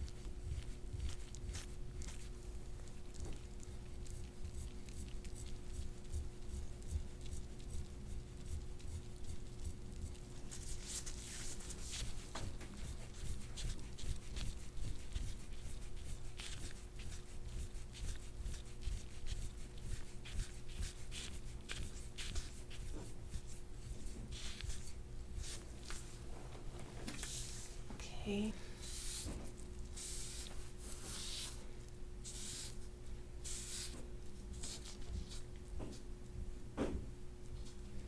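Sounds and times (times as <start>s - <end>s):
soft rustling and rubbing: 0.0s - 36.1s
steady low hum: 0.0s - 38.0s.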